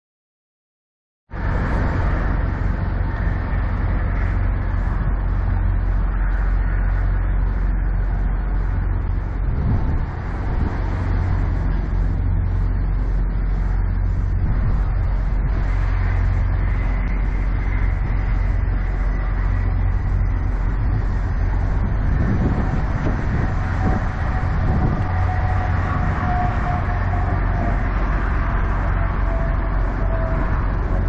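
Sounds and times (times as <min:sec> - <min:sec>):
diesel truck engine idling: 0:01.4 - 0:31.0.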